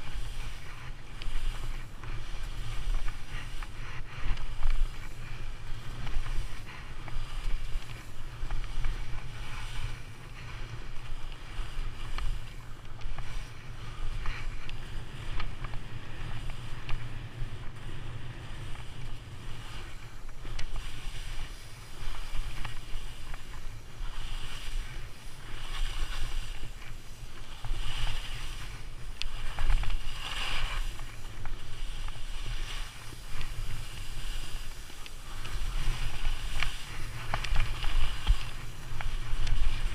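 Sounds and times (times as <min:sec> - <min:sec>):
skis hissing through snow: 0:00.0 - 0:39.9
wind rumble on microphone: 0:00.0 - 0:39.9.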